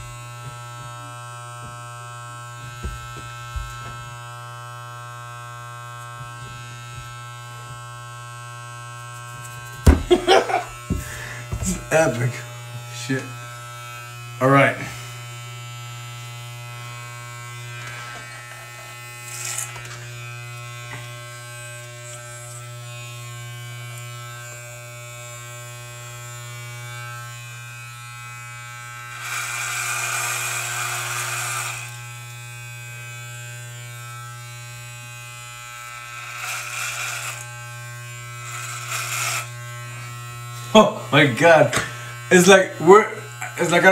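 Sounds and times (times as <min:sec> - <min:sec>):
electric hair clippers buzzing: 0:00.0 - 0:43.9.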